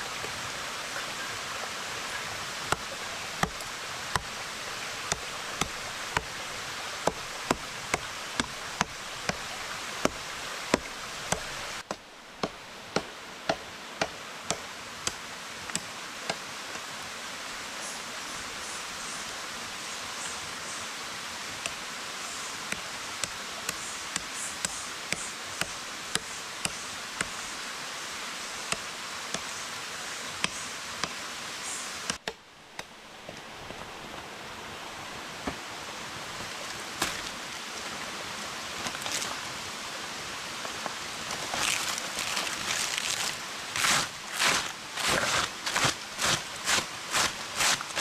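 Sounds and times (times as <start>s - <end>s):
leaves rustling: 0.0s - 48.0s
stream water rushing: 0.0s - 48.0s.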